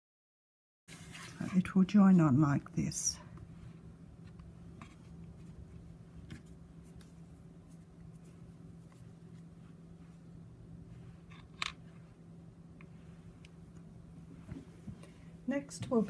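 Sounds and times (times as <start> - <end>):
low steady hum: 0.9 - 16.0.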